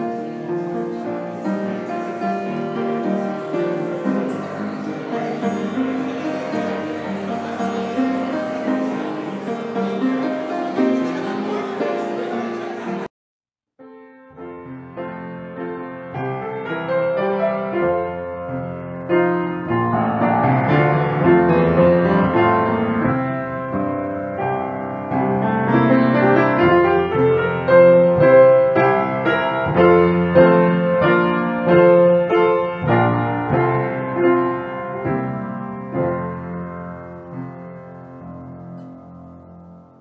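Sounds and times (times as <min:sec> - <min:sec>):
solo piano music: 0:00.0 - 0:13.1, 0:13.8 - 0:40.0.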